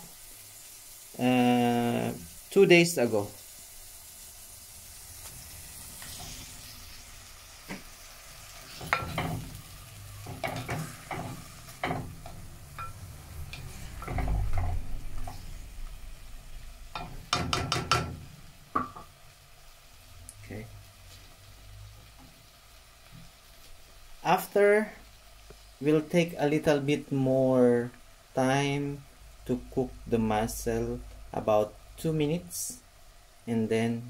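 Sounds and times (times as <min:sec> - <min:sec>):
low sizzle: 0:00.0 - 0:34.0.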